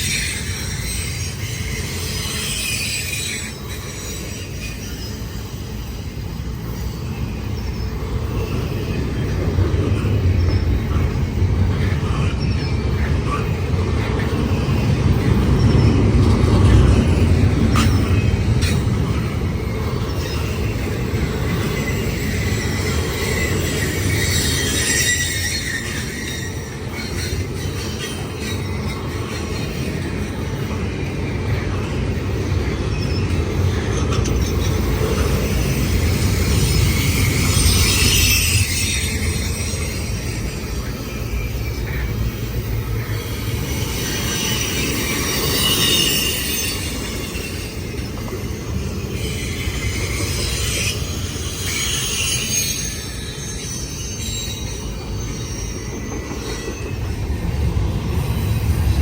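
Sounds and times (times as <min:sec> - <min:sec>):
faint wheel squeal: 0:00.0 - 0:59.0
train wheels rumbling on rail: 0:00.0 - 0:59.0.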